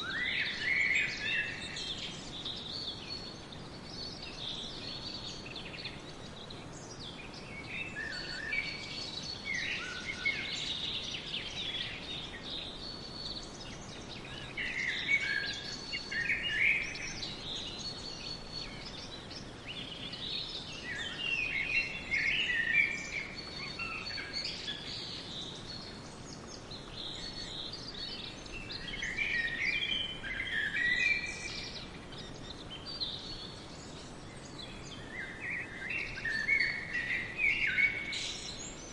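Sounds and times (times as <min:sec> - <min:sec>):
songbirds singing: 0:00.0 - 0:38.9
steady background hiss: 0:00.0 - 0:38.9.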